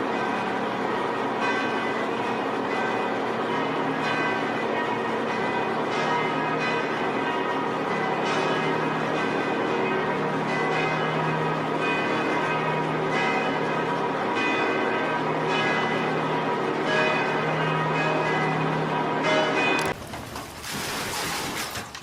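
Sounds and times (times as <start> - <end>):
bells ringing: 0.0 - 20.0.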